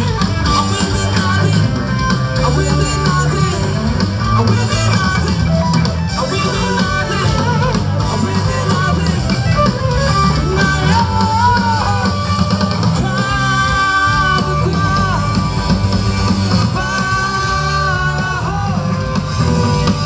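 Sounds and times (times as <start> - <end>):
man singing lead vocal: 0.0 - 15.8, 16.4 - 20.0
live rock band: 0.0 - 20.0.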